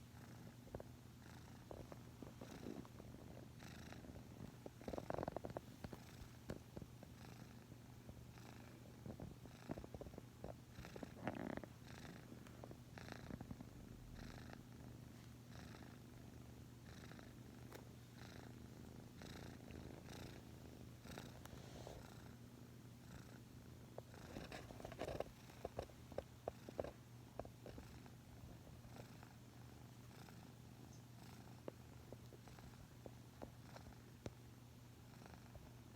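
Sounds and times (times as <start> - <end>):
cat purring: 0.0 - 35.9.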